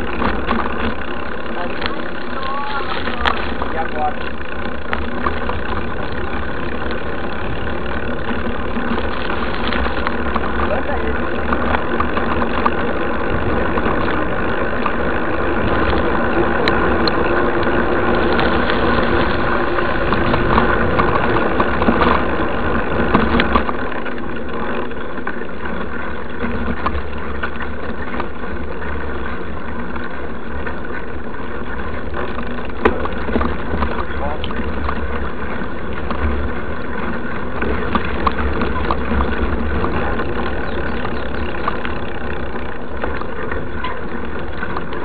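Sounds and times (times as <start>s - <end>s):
bike rumbling over dirt road: 0.0s - 45.0s
constant hum: 0.0s - 45.0s.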